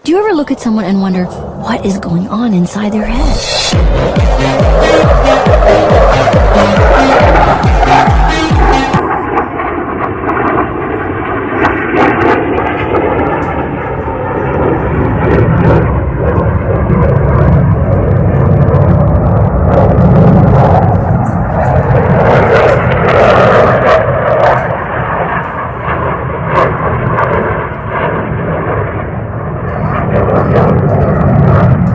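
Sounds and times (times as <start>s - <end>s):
continuous mechanical noise: 0.0s - 31.9s.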